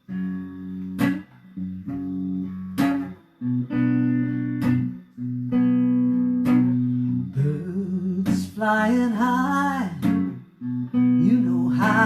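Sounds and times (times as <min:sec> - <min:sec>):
guitar strumming slow chords: 0:00.0 - 0:12.0.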